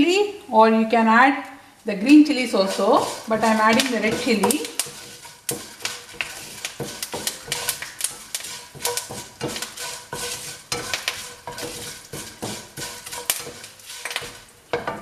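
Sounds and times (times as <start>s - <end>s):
spices sizzling in hot oil: 1.8s - 15.0s
utensil scraping a frying pan: 2.3s - 15.0s.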